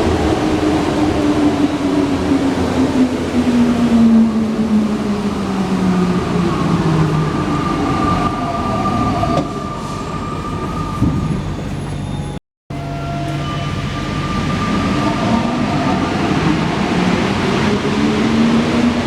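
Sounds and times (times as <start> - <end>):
metro train motor whine: 0.0 - 19.0.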